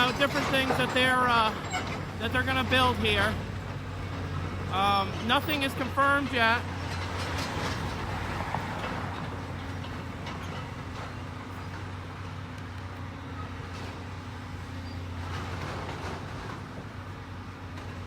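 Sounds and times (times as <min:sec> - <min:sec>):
heavy diesel engine drone: 0:00.0 - 0:18.0.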